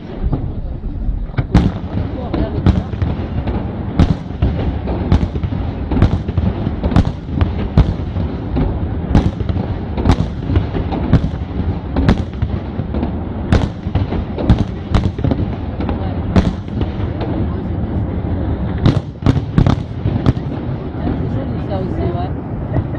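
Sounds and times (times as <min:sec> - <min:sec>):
fireworks bangs: 0:00.0 - 0:22.9
low rumble of fireworks: 0:00.0 - 0:22.9.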